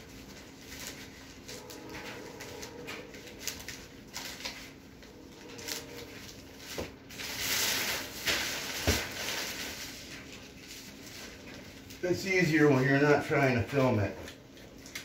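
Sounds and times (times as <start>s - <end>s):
plastic sheeting rustling: 0.0s - 14.1s.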